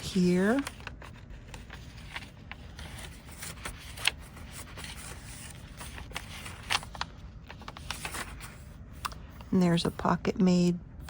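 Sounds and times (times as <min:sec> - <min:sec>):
paper and card rustling: 0:00.0 - 0:10.2.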